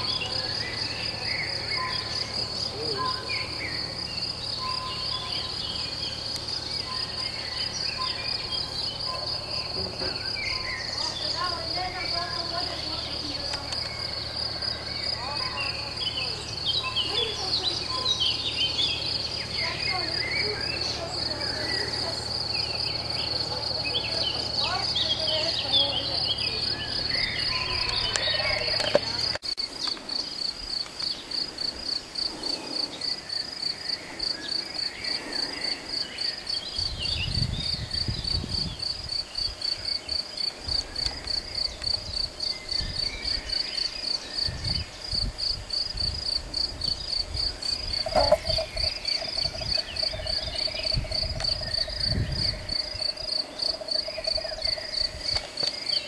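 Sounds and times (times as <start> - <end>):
birds calling: 0.0 - 56.0
cricket chirping: 0.0 - 56.0.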